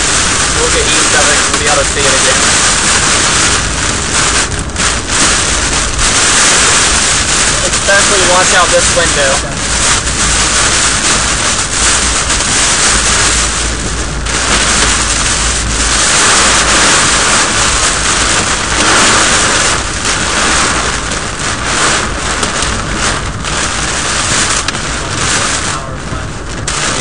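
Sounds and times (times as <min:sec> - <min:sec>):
heavy rain on a car: 0:00.0 - 0:27.0
wind gusts: 0:00.0 - 0:27.0.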